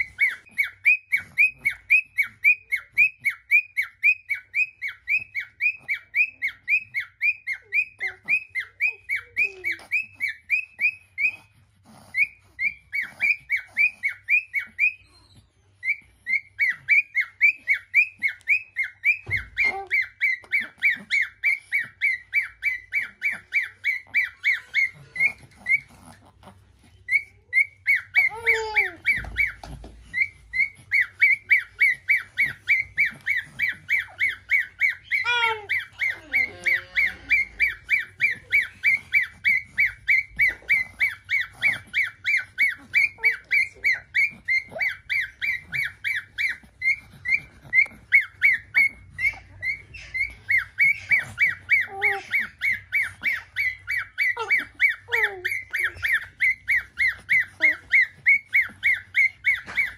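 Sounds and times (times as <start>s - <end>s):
cockatiel calling: 0.0s - 59.9s.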